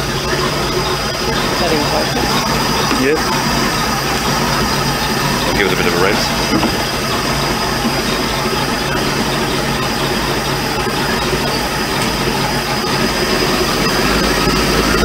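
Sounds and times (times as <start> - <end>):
engine idling: 0.0 - 15.0
thin high whine: 0.0 - 15.0.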